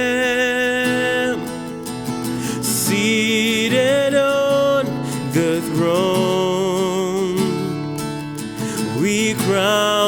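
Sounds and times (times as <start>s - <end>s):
person singing worship song: 0.0s - 8.0s, 8.6s - 10.0s
strummed acoustic guitar: 0.0s - 10.0s.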